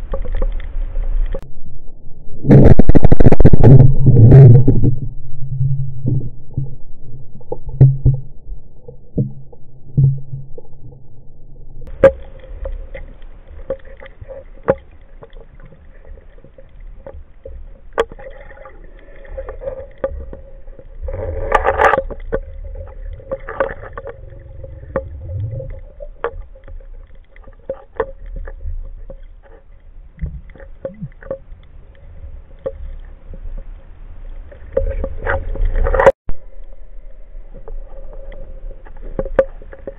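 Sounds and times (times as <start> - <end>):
underwater rumble: 0.0 - 39.9.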